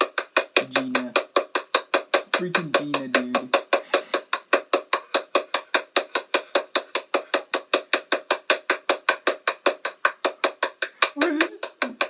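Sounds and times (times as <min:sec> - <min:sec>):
rapid even knocking: 0:00.0 - 0:12.0.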